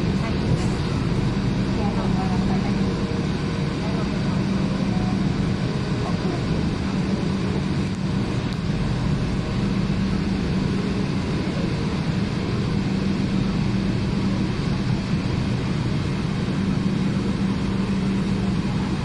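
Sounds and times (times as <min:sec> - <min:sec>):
electric train running noise: 0:00.0 - 0:19.0
low steady hum: 0:00.0 - 0:19.0.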